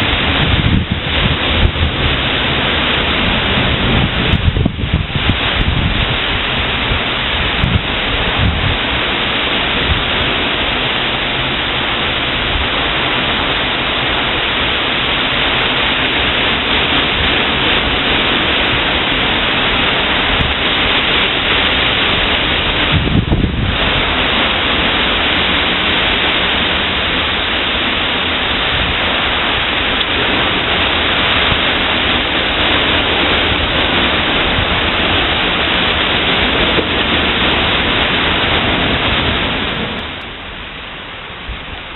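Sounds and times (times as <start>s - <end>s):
heavy rain pouring: 0.0s - 41.9s
thunder rumble: 0.0s - 41.9s.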